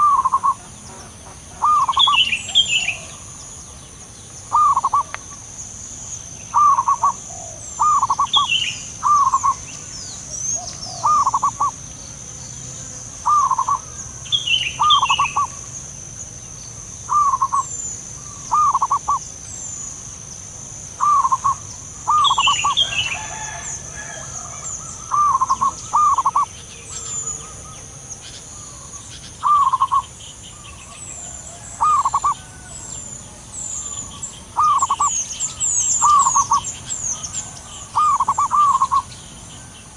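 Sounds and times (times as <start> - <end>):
doves cooing: 0.0 - 3.6, 4.4 - 5.5, 6.4 - 11.9, 12.7 - 15.8, 17.0 - 20.0, 20.9 - 39.9
small birds chirping: 0.0 - 39.9.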